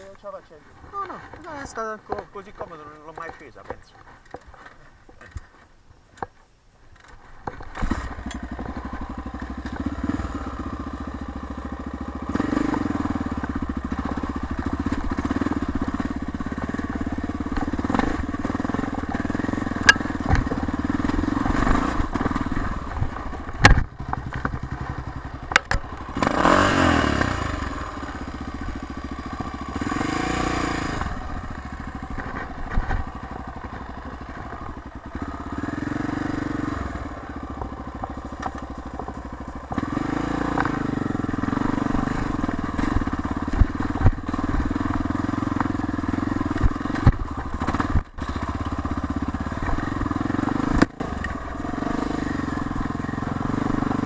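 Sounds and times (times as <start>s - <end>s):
dirt bike engine revving: 7.7s - 54.0s.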